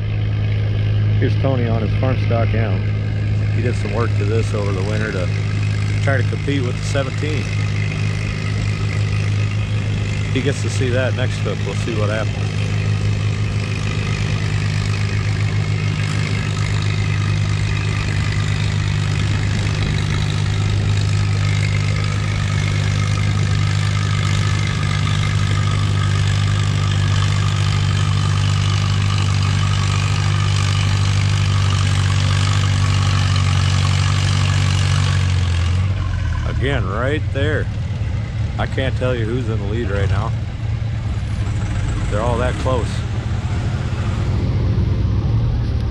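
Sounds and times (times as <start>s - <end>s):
tractor engine under heavy load: 0.0s - 45.9s.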